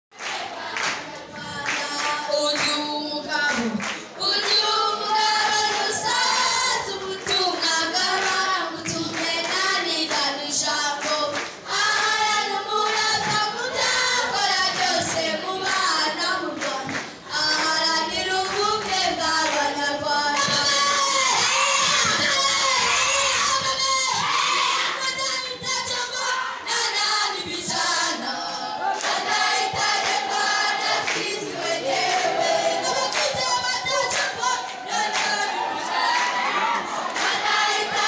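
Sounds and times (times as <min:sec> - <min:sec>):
group of voices singing: 0:00.1 - 0:38.0.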